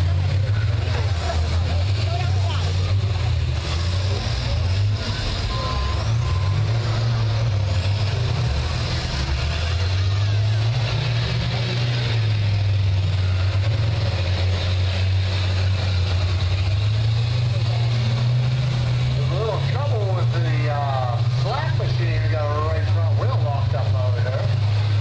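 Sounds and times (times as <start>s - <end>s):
bus engines rumbling: 0.0s - 25.0s.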